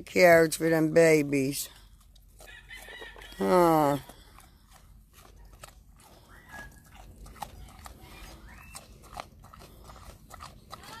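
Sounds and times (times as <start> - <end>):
pig chewing carrot crunches: 0.0 - 11.0.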